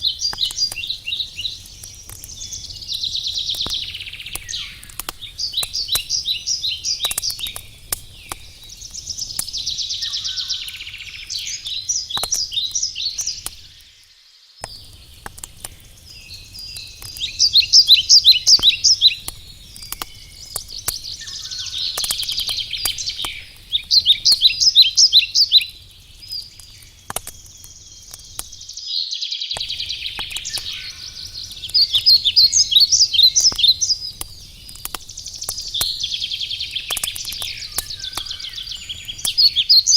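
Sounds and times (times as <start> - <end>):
campfire crackling and popping: 0.0 - 14.0, 14.6 - 28.9, 29.5 - 39.9
songbird singing: 0.0 - 39.9.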